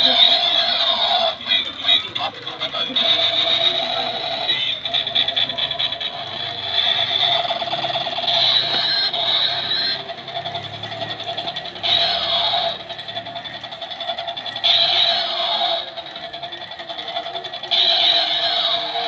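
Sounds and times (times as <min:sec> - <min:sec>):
rapidly pulsing electronic buzz: 0:00.0 - 0:19.0.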